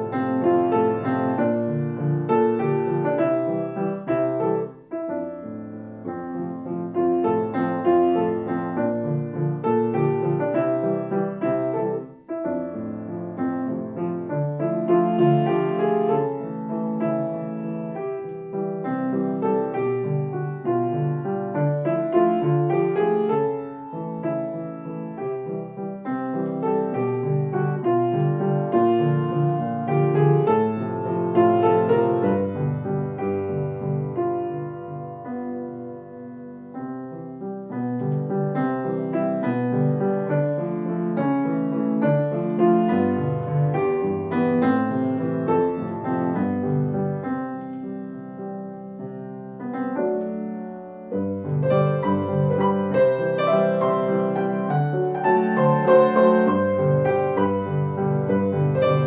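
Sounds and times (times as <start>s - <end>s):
grand piano playing a waltz: 0.0s - 59.0s.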